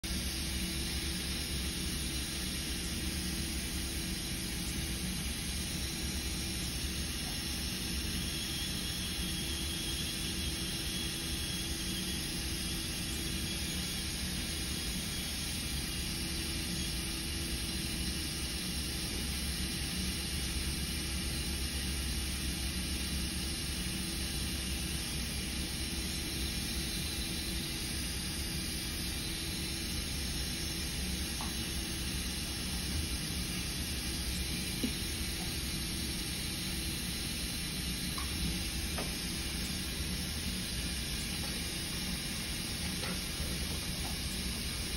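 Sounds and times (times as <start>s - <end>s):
low mechanical hum: 0.0s - 44.9s.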